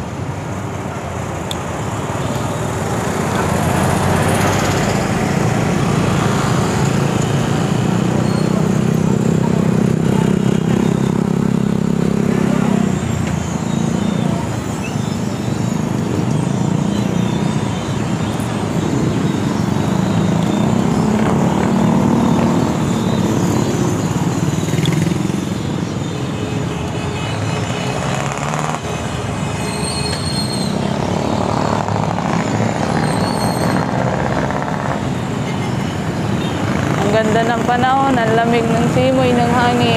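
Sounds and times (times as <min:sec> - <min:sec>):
motorcycle engines: 0:00.0 - 0:39.9.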